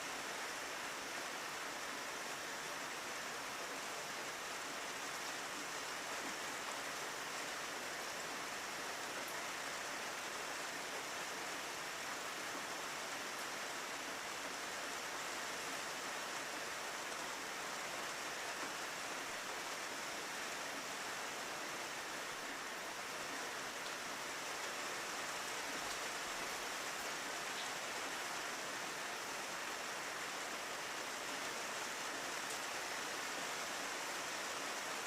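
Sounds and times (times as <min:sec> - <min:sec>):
rain on a window: 0:00.0 - 0:35.0.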